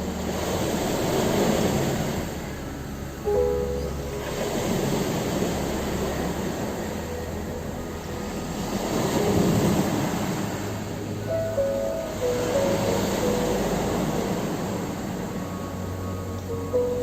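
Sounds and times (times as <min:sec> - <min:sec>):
ocean waves on shore: 0:00.0 - 0:17.0
soft music with held notes: 0:00.0 - 0:17.0.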